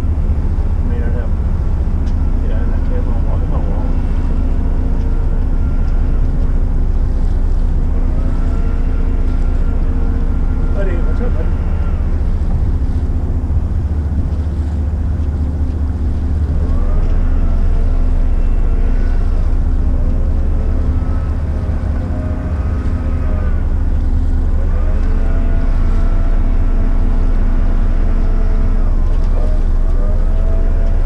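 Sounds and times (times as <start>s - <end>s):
diesel engines rumbling: 0.0s - 31.0s
rising whine: 0.0s - 31.0s
wind buffeting microphone: 0.0s - 31.0s.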